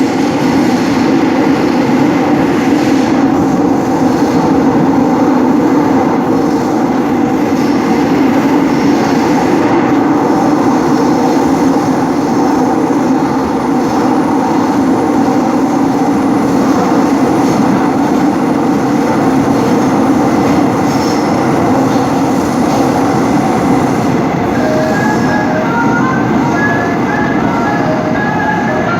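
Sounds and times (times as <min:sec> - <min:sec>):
subway train rumbling in tunnel: 0:00.0 - 0:28.9.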